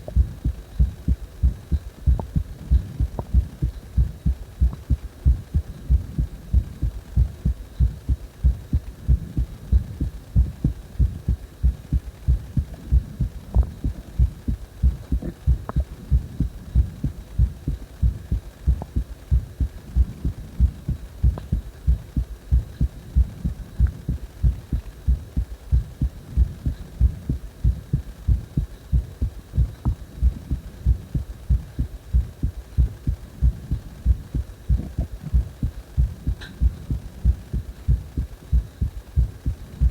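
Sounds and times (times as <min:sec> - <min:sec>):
heart beating: 0:00.0 - 0:39.9.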